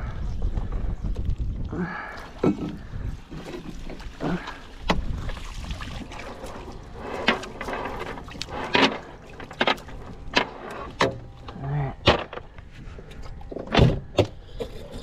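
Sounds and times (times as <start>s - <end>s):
knocks and clatters in a boat: 0.1s - 1.7s, 2.4s - 15.0s.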